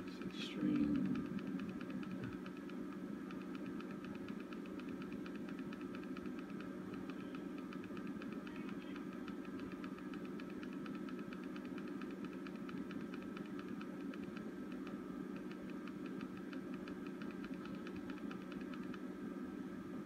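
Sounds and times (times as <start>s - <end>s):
fast ticking buzz: 0.0s - 19.0s
electrical hum: 0.0s - 20.0s.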